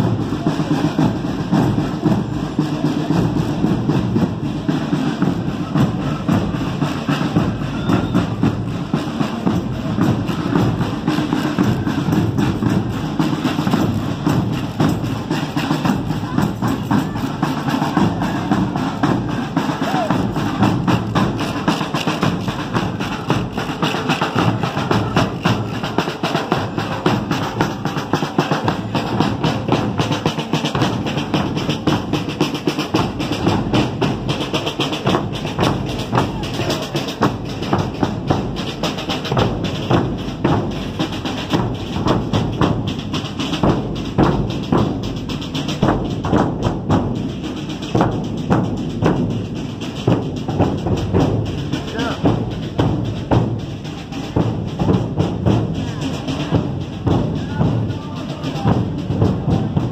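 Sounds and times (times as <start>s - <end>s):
bass drums beating: 0.0s - 59.9s
snare drums: 0.0s - 59.9s.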